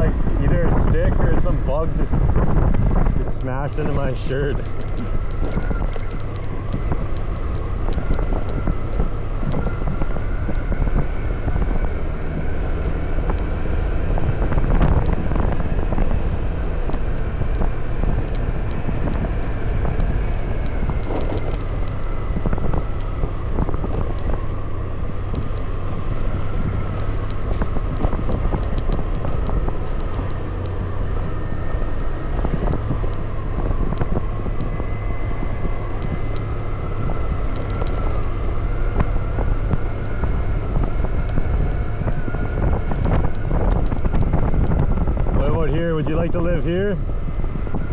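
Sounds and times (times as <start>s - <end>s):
motorbike engine drone: 0.0s - 47.9s
wind rushing over microphone: 0.0s - 47.9s.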